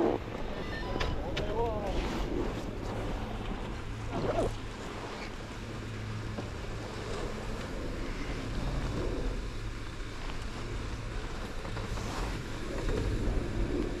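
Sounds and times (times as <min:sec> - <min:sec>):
chairlift machinery humming: 0:00.0 - 0:14.0
wind buffeting microphone: 0:00.0 - 0:14.0.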